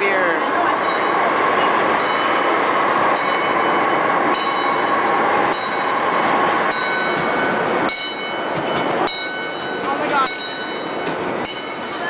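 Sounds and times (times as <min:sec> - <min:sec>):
ride train rumbling on track: 0:00.0 - 0:12.0.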